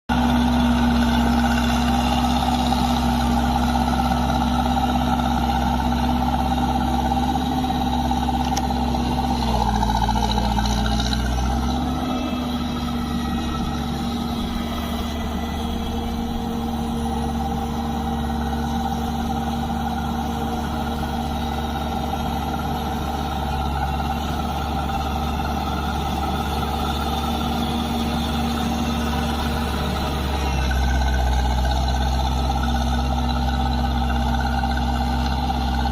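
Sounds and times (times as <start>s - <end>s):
diesel engine running: 0.1s - 35.9s.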